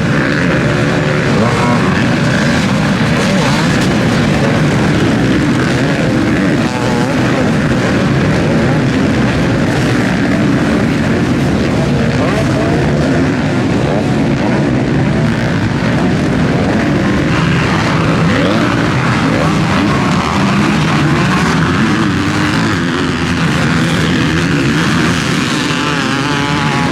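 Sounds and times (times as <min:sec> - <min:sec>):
motocross bike engines racing: 0:00.0 - 0:26.9.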